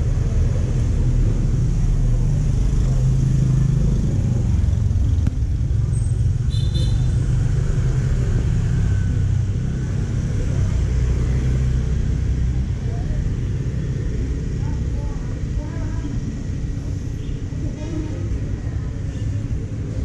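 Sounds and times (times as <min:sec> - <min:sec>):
motorbike traffic rumble: 0:00.0 - 0:20.0.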